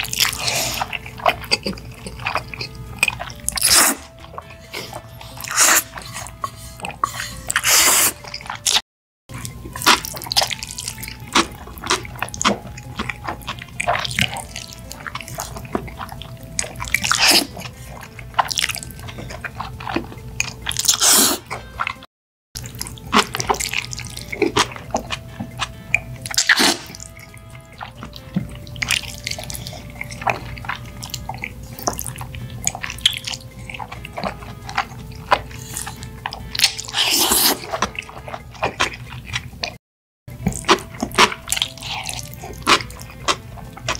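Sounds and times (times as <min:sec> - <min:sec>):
faint simple melody music: 0:00.0 - 0:43.9
smacking and chewing: 0:00.0 - 0:43.9
wet noodle slurping: 0:00.0 - 0:43.9.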